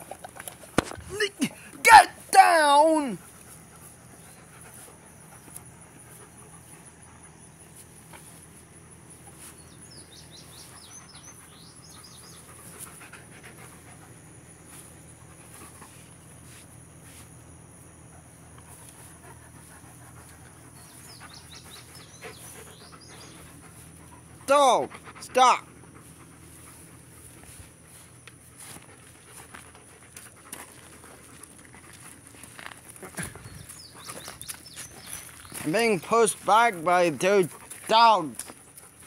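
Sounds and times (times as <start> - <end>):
dog panting: 3.2 - 17.0, 17.8 - 39.0.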